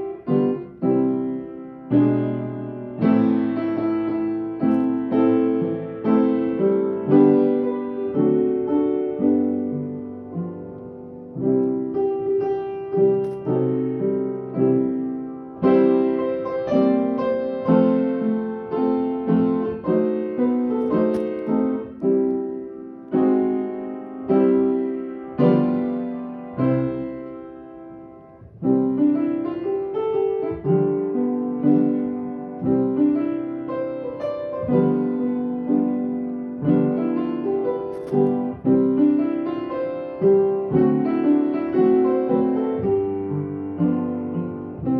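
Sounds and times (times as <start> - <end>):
slow piano chords: 0.0 - 44.9.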